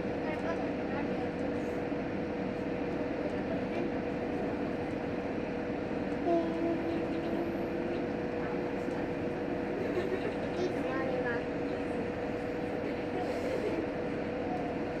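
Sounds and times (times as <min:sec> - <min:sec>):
railcar running rumble and whine: 0:00.0 - 0:15.0.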